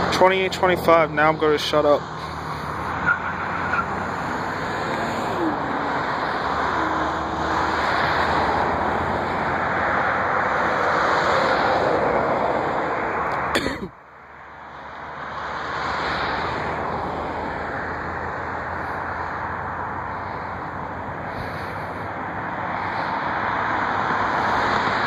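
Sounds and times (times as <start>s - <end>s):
rushing engine noise: 0.0s - 25.0s.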